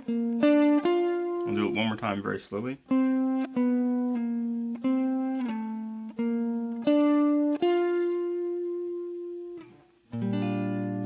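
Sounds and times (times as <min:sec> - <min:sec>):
guitar picking single notes: 0:00.0 - 0:11.0.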